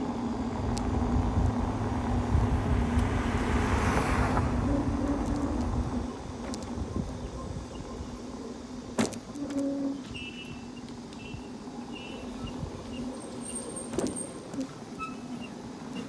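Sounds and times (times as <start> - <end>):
electric bike motor hum: 0.0 - 16.0
road and wind rumble: 0.0 - 16.0.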